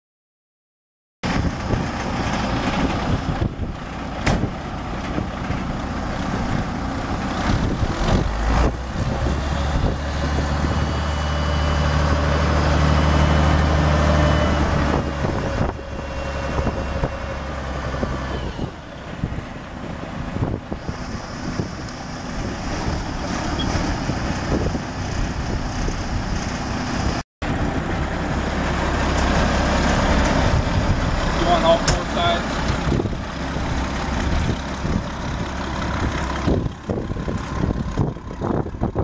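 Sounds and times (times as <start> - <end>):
diesel truck engine running: 1.2 - 39.0.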